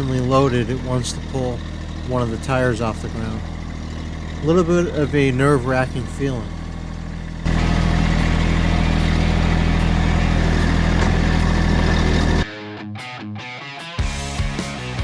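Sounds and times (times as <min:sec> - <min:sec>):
diesel tractor engine running: 0:00.0 - 0:12.5
guitar music: 0:00.0 - 0:15.0.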